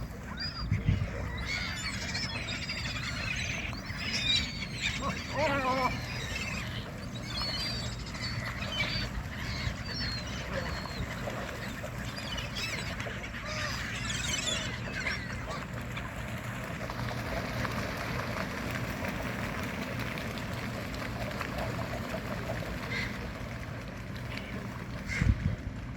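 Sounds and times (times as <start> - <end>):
ducks and gulls squawking: 0.0 - 25.8.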